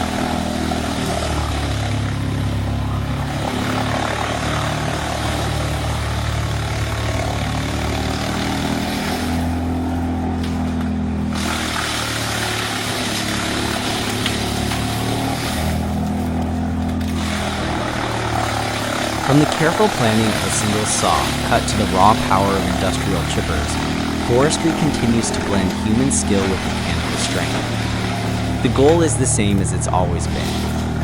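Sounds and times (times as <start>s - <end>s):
broad rushing noise: 0.0s - 31.0s
large engine running: 0.0s - 31.0s.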